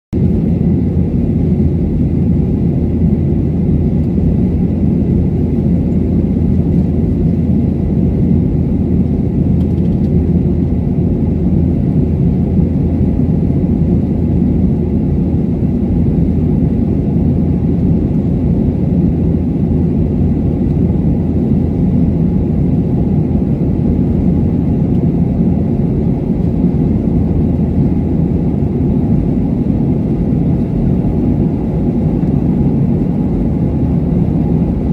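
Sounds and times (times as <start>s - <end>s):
airliner engines rumbling: 0.2s - 34.9s.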